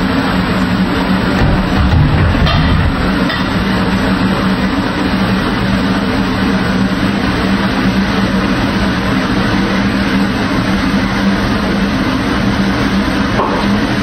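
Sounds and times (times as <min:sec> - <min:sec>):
range hood fan running: 0:00.0 - 0:14.0.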